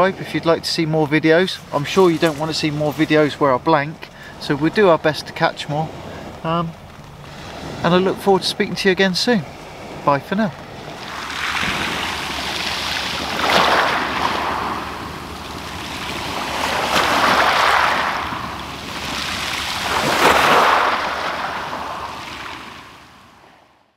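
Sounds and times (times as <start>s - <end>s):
small waves breaking on shingle: 1.6s - 23.0s.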